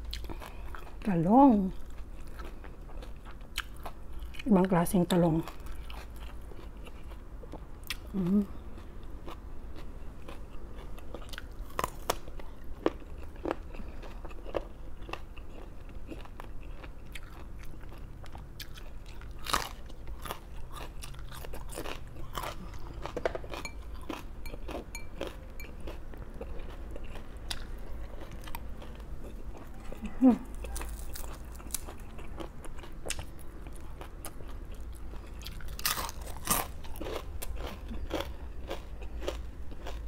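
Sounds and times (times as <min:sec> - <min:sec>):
chewing raw vegetables: 0:00.0 - 0:40.0.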